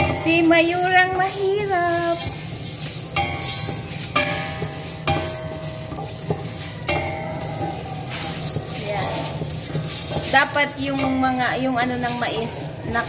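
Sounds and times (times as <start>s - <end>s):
oil sizzling: 0.0s - 13.0s
steel pot ringing: 0.0s - 13.0s
wooden spatula scraping kernels in pot: 0.0s - 13.0s.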